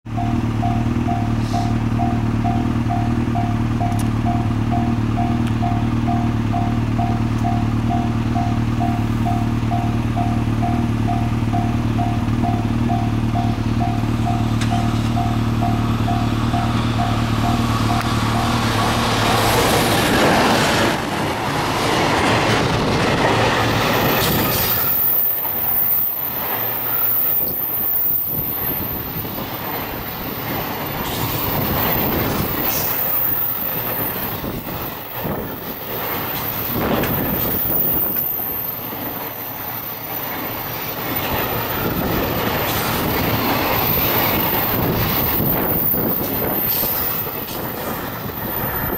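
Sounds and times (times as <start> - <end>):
electric locomotive passing: 0.1 - 48.9
train wagons rumbling past: 0.1 - 48.9
wheels clattering over rails: 0.3 - 48.9.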